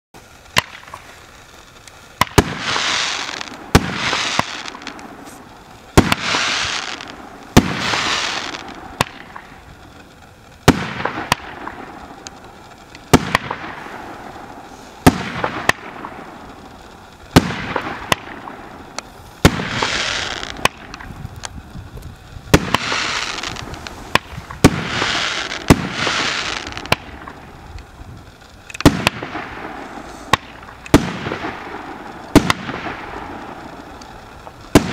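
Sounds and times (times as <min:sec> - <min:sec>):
firework bangs: 0:00.2 - 0:34.9
firework crackling: 0:00.2 - 0:34.9.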